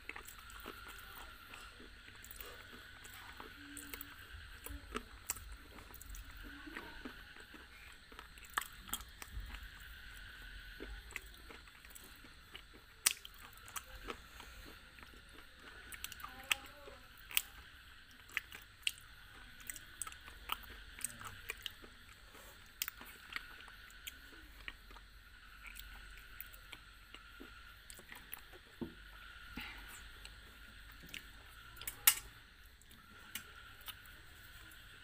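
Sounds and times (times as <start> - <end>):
chewing crunchy food: 0.0 - 35.0.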